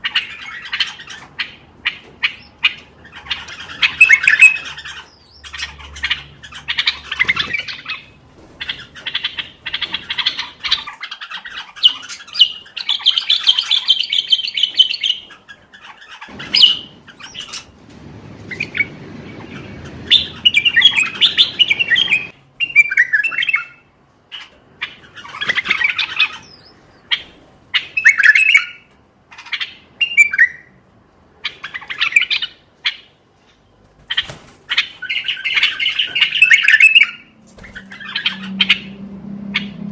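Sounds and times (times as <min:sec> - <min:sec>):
bird singing warbling phrases: 0:00.0 - 0:17.8, 0:18.5 - 0:30.8, 0:31.4 - 0:39.9.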